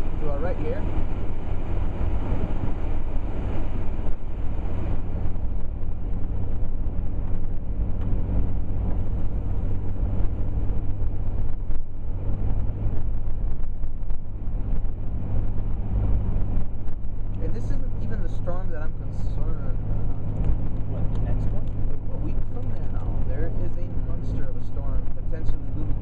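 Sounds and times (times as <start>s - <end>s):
vehicle engine and road noise: 0.0s - 26.0s.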